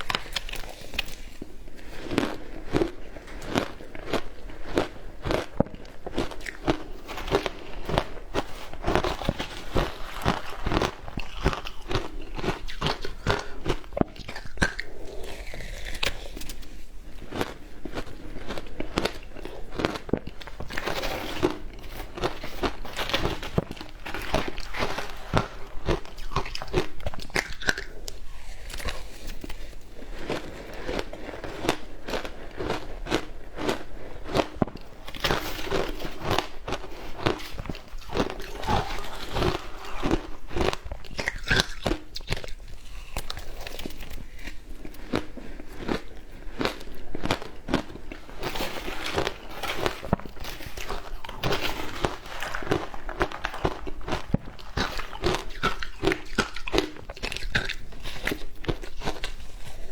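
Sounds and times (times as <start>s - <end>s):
ice being bitten and chewed: 0.0s - 59.9s.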